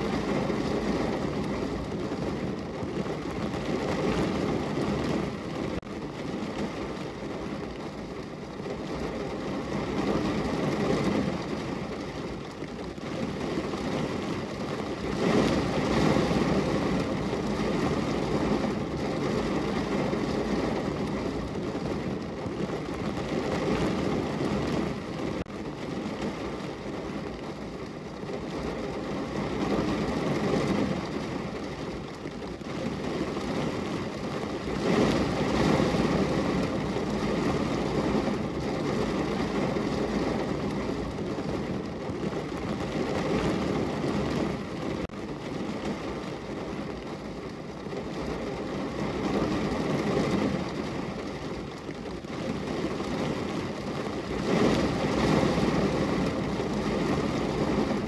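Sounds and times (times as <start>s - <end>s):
rain on a window pane: 0.0s - 58.0s.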